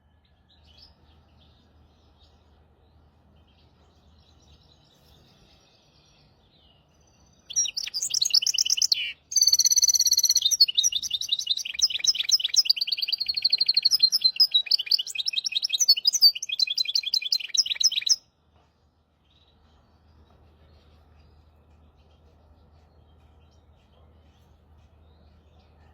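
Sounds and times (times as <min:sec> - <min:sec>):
bird twittering song: 0:00.0 - 0:18.3, 0:19.1 - 0:25.9.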